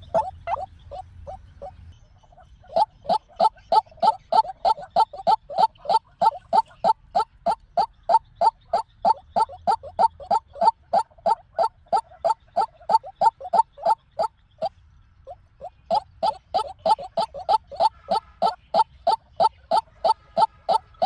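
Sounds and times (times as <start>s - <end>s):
waterhen calling: 0.0s - 14.7s, 15.3s - 21.0s.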